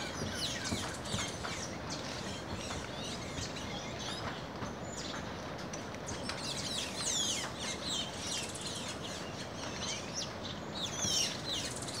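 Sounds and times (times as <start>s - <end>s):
wild birds chirping: 0.0s - 5.3s, 6.0s - 12.0s.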